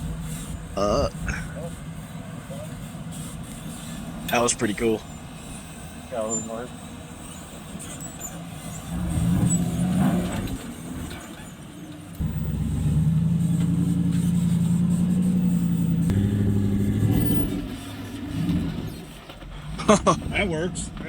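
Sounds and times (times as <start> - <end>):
engine crawling under load: 0.0 - 21.0.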